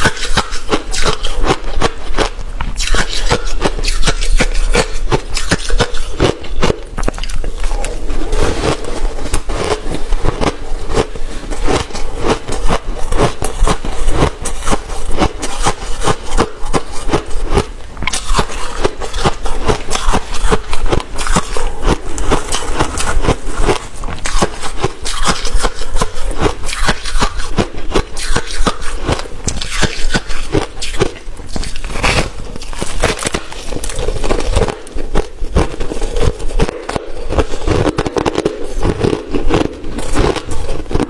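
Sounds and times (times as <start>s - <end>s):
frost being chewed with crunches: 0.0s - 41.0s.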